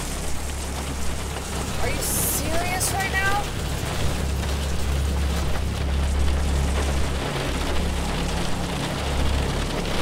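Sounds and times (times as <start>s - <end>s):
low rumble: 0.0s - 10.0s
rain on a truck cab: 0.0s - 10.0s.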